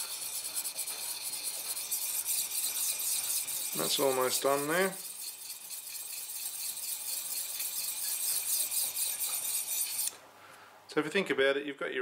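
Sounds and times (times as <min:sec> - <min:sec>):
knife stroked on diamond sharpener: 0:00.0 - 0:10.1.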